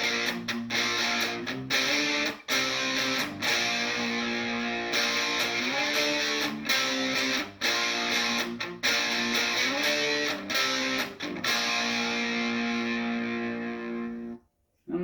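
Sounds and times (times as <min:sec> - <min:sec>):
electric guitar lead phrase: 0:00.0 - 0:14.4.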